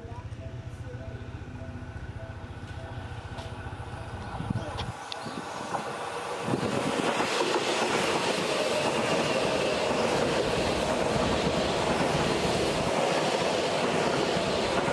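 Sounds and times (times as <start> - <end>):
electric train passing: 0.0 - 14.9.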